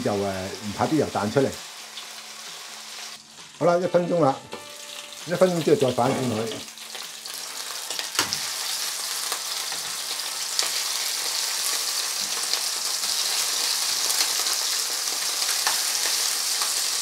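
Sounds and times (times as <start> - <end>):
meat sizzling in oil: 0.0 - 3.9, 4.7 - 17.0.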